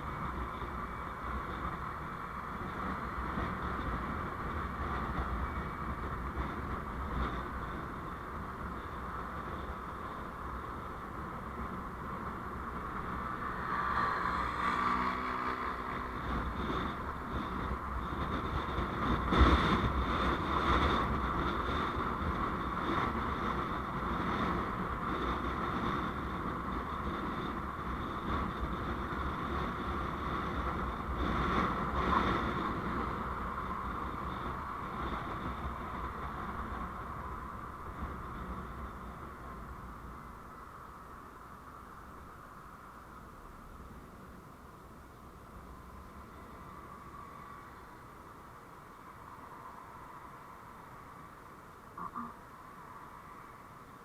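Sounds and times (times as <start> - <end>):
vehicle road and engine noise: 0.0 - 54.0.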